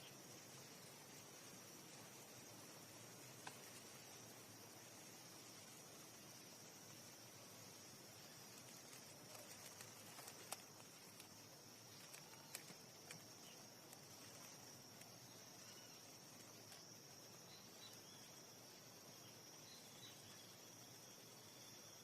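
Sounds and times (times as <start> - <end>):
insect trill: 0.0 - 22.0.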